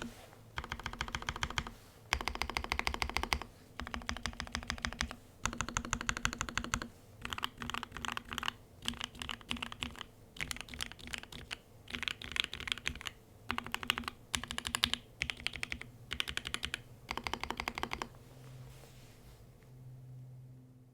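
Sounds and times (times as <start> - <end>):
typing on mechanical keyboard: 0.6 - 18.1.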